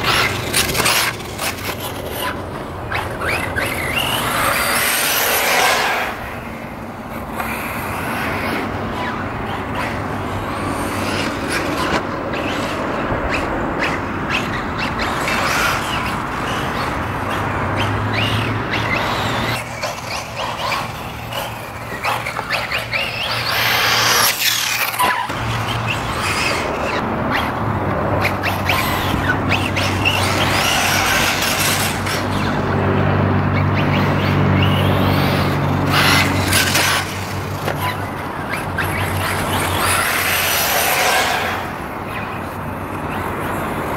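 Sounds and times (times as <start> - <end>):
tyres on dirt: 0.0 - 43.9.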